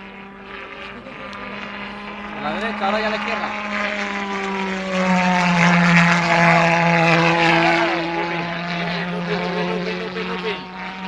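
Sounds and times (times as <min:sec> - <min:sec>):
pulse jet engine buzzing: 0:00.0 - 0:11.0.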